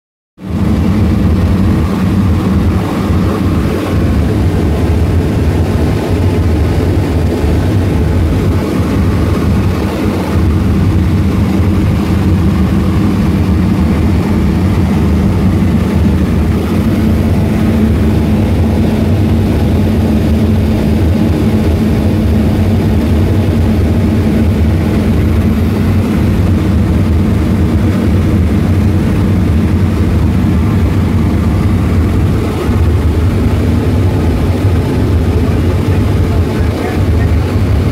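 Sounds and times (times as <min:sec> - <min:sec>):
propeller aircraft engines droning: 0:00.4 - 0:37.9.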